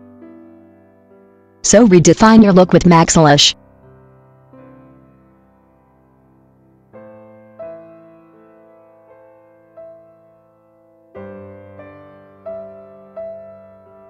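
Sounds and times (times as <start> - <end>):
soft piano chords: 0.0 - 2.6, 3.5 - 14.0.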